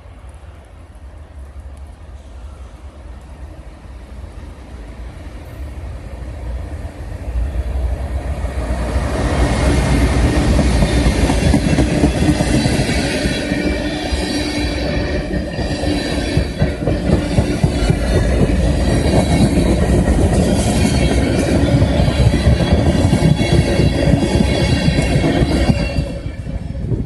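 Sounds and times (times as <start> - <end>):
train wheels rumbling and clacking: 0.0 - 27.0.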